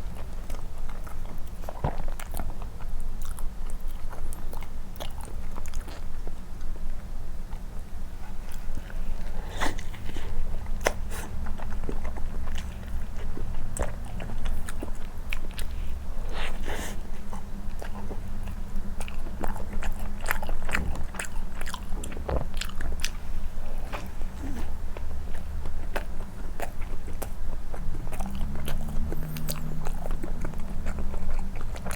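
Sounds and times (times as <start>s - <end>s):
wet chewing with mouth clicks: 0.0s - 31.9s.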